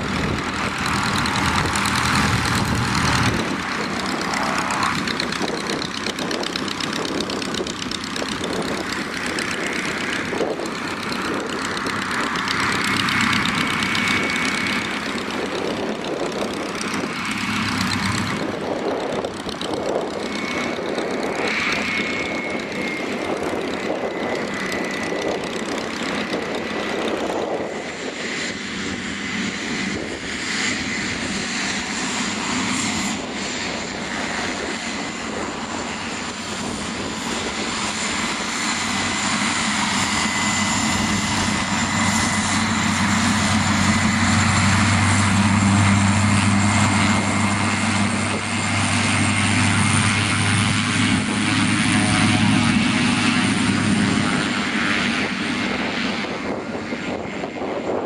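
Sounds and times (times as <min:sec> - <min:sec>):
turboprop aircraft taxiing: 0:00.0 - 0:58.0.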